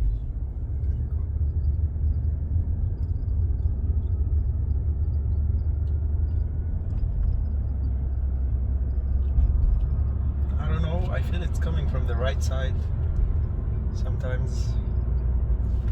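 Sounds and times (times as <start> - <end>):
car engine rumble: 0.0 - 15.9
road noise: 0.0 - 15.9.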